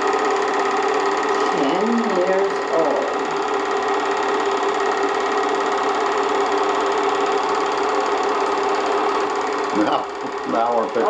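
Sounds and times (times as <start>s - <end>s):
film projector whirring and clattering: 0.0s - 11.0s.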